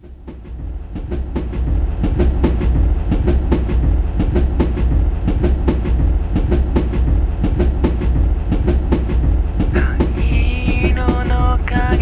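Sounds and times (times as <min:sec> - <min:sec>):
deep train rumble: 0:00.0 - 0:12.0.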